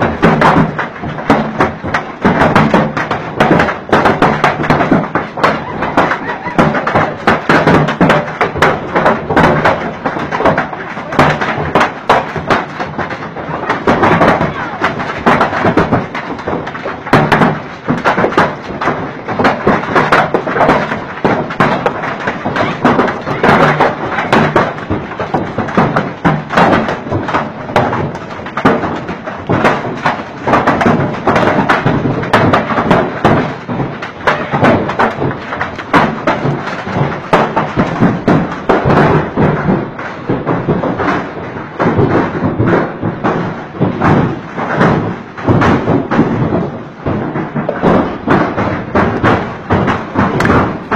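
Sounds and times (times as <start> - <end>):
hailstones pelting: 0.0 - 50.9
torrential rain: 0.0 - 50.9.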